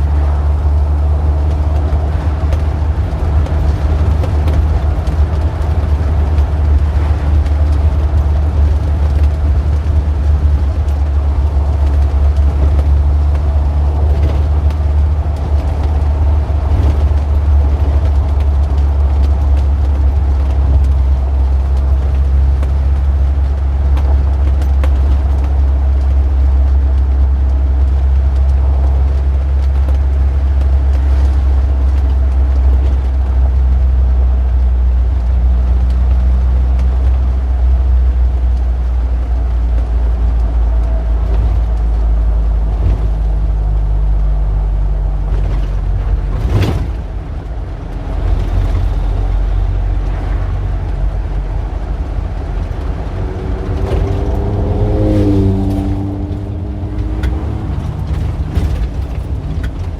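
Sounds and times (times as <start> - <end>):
engine low rumble: 0.0 - 59.9.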